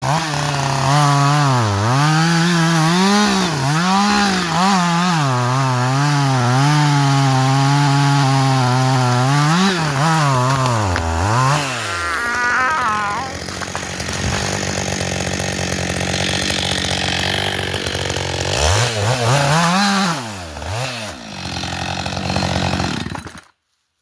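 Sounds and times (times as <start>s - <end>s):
chainsaw cutting wood: 0.0s - 23.6s.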